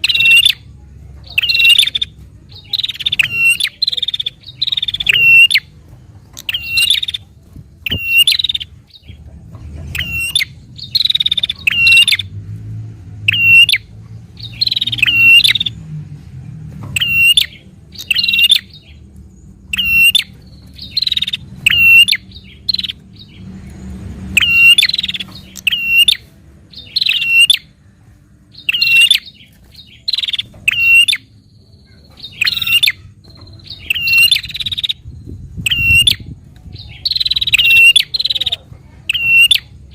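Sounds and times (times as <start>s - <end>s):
prinia bird chirping: 0.0s - 39.9s.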